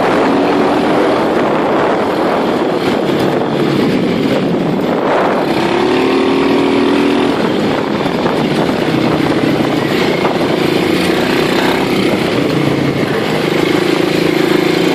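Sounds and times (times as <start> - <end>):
small engine running: 0.1 - 14.9.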